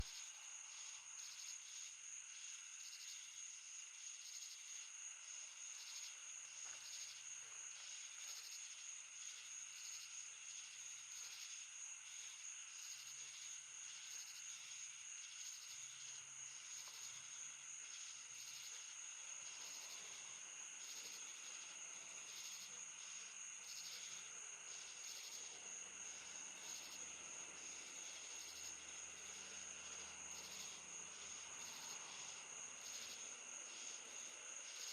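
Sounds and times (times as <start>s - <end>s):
faint cricket chirps: 0.0s - 34.9s
insects trilling: 0.0s - 34.9s.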